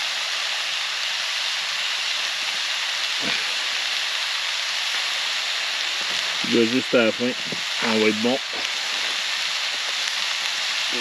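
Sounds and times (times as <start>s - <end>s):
mushrooms sizzling: 0.0s - 11.0s.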